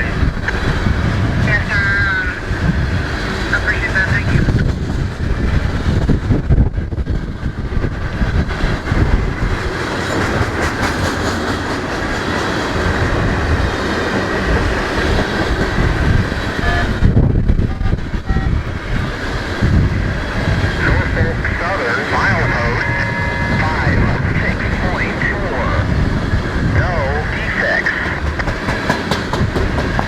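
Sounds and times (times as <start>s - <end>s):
freight train rumbling on rails: 0.0s - 30.0s.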